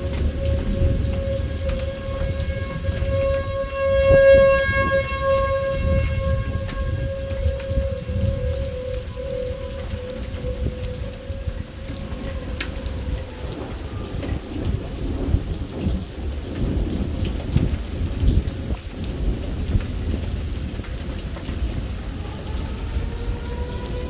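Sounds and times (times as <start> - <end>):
faint wailing siren: 0.0 - 24.0
heavy rain: 0.0 - 24.0
rolling thunder: 0.0 - 24.0.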